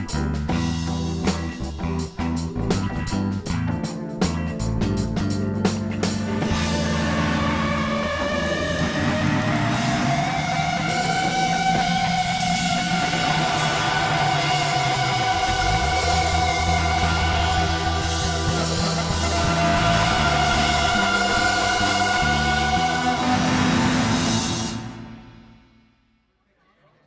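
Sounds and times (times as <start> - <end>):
bass line: 0.0 - 25.8
rock band playing: 0.0 - 25.8.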